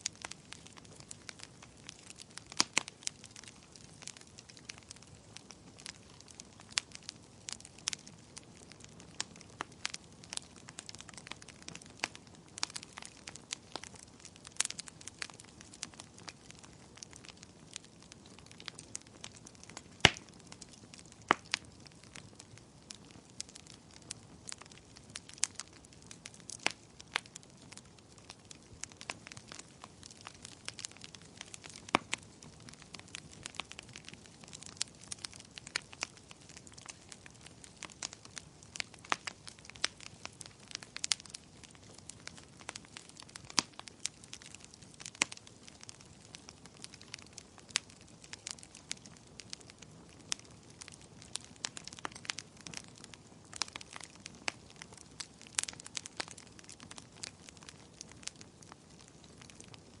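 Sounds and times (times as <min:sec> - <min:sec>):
fireplace fire crackling: 0:00.0 - 1:00.0
soft steady hiss: 0:00.0 - 1:00.0.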